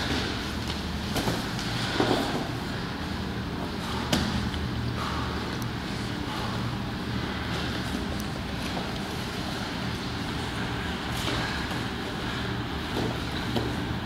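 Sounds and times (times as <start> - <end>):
bodies scrambling on gym mats: 0.0 - 14.0
low room hum: 0.0 - 14.0.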